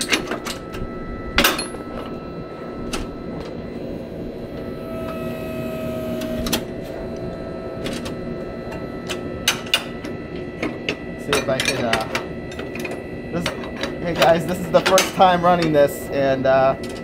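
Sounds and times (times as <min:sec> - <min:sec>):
hydraulic pump humming: 0:00.0 - 0:17.0.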